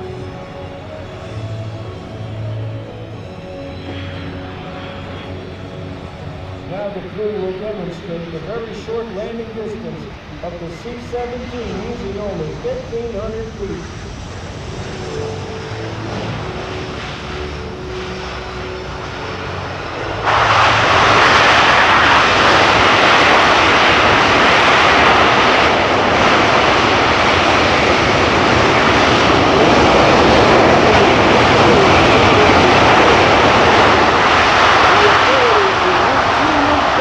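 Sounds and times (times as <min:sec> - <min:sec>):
faint steady whine: 0:00.0 - 0:37.0
jet engine noise: 0:00.0 - 0:37.0.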